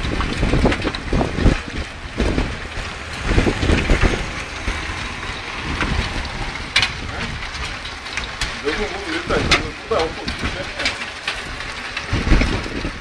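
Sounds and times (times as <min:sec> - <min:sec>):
storm wind gusting on microphone: 0:00.0 - 0:13.0.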